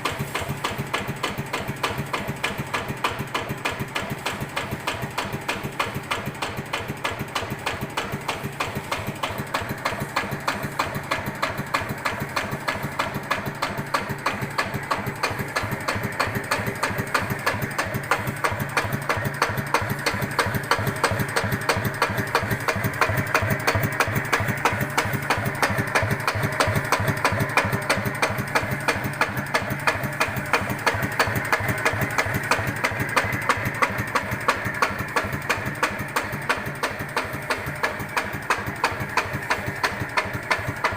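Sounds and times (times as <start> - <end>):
diesel engine idling: 0.0 - 40.9
engine knocking: 0.0 - 40.9.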